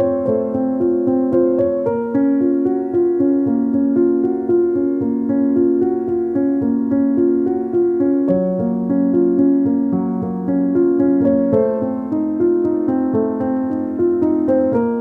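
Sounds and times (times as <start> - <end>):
bright keyboard melody: 0.0 - 15.0.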